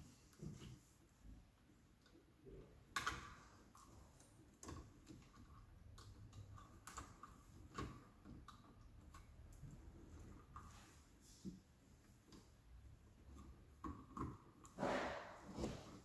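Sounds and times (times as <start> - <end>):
clicks and rustles of wires: 0.0 - 16.0.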